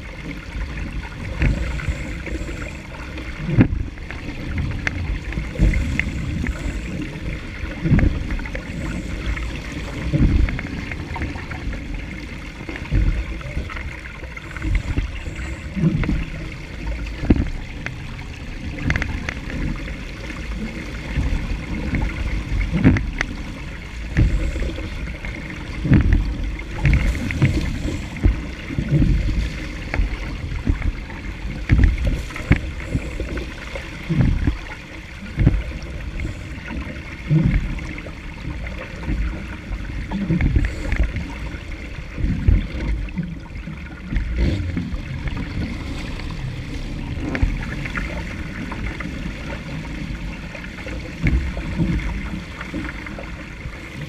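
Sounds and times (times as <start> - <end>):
hull slapping into waves: 0.0 - 54.0
water rushing along a boat hull: 0.0 - 54.0.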